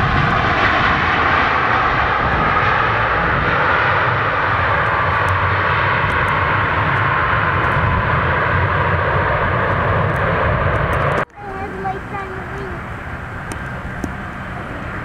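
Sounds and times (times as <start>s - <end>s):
turboprop airliner engines roaring: 0.0s - 15.0s.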